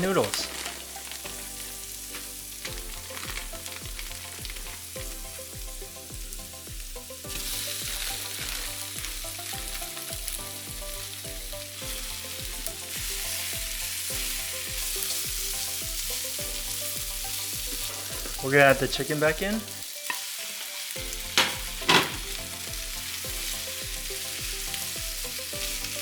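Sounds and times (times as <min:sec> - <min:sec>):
background music with bass beat: 0:00.0 - 0:19.6, 0:21.0 - 0:26.0
noodles sizzling in hot oil: 0:00.0 - 0:26.0.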